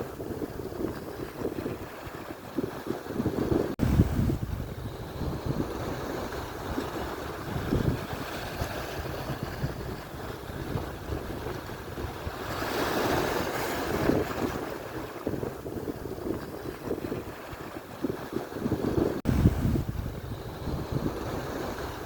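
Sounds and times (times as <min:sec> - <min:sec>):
waves washing on shore: 0:00.0 - 0:22.0
wind buffeting microphone: 0:00.0 - 0:22.0.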